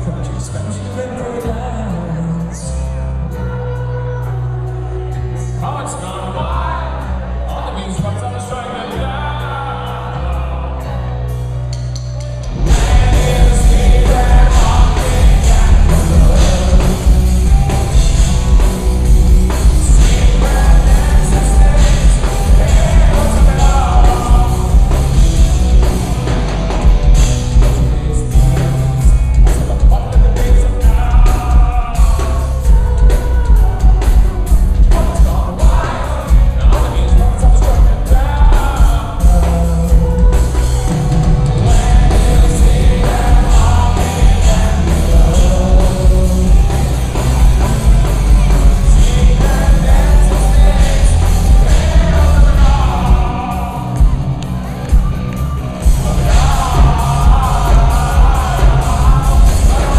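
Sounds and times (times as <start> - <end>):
man singing lead: 0.0 - 11.6, 12.4 - 26.4, 27.1 - 55.2, 55.8 - 59.9
live rock band playing: 0.0 - 59.9.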